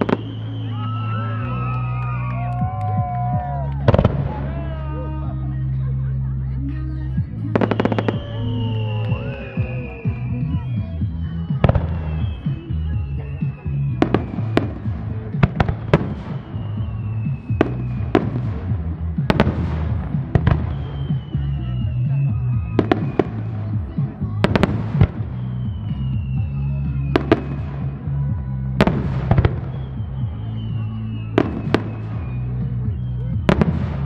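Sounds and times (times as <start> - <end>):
fireworks bangs: 0.0 - 5.0, 7.2 - 34.0
music over loudspeakers: 0.0 - 34.0.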